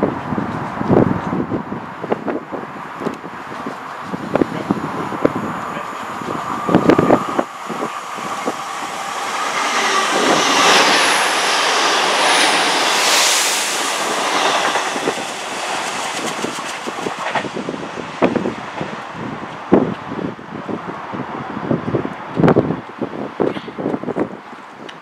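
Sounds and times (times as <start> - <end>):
train rushing past: 0.0 - 21.8
wind buffeting microphone: 0.0 - 25.0.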